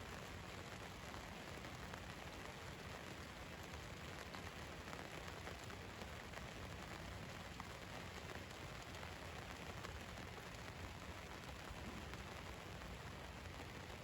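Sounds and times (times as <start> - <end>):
rain on a vehicle roof: 0.0 - 14.0.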